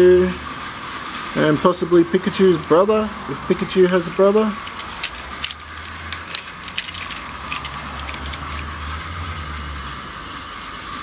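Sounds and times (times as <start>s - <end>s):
mechanical hum and hiss: 0.0s - 11.0s.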